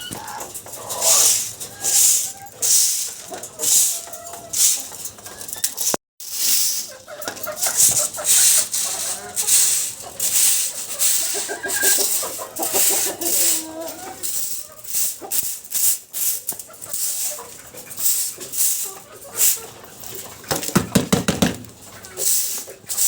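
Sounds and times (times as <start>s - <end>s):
chickens clucking: 0.0s - 23.0s
scratchy rustling: 0.5s - 21.0s.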